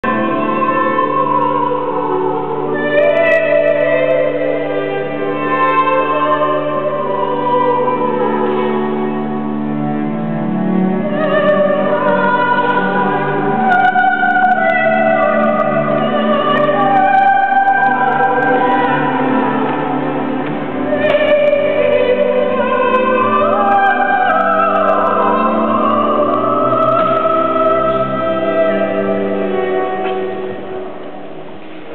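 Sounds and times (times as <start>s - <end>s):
woman singing opera: 0.0s - 9.2s, 11.0s - 30.8s
string orchestra holding notes: 0.0s - 31.1s.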